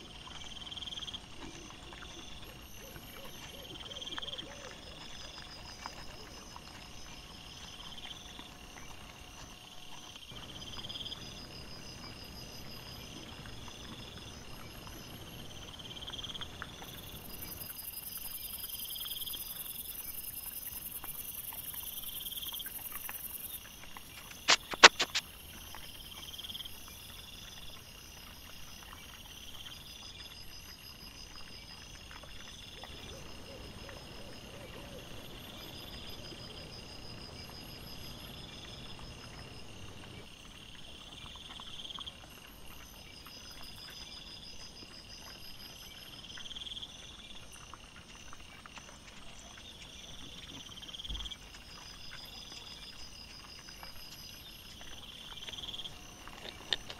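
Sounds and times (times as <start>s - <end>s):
night insects chirping: 0.0s - 56.9s.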